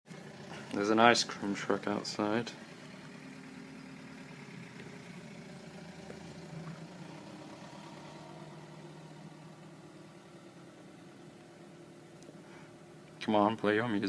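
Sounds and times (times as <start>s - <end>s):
truck engine idling: 0.1s - 14.0s.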